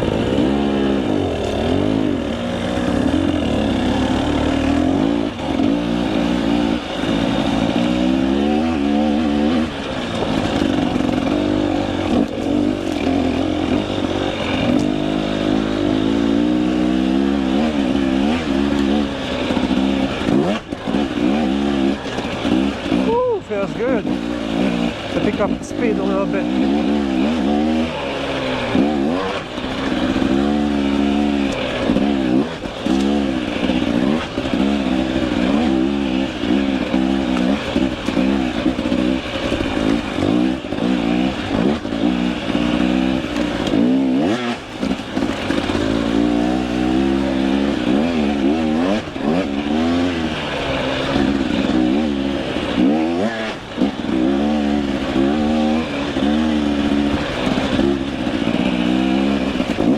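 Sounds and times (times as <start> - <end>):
two-stroke dirt bike engine: 0.0 - 59.9.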